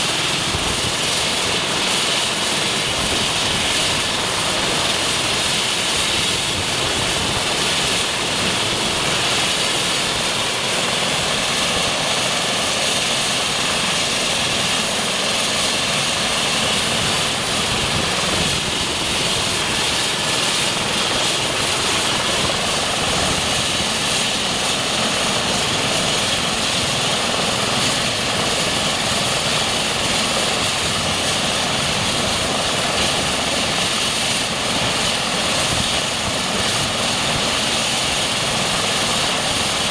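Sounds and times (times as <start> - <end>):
helicopter engine high whine: 0.0 - 39.9
helicopter rotor noise: 0.0 - 39.9.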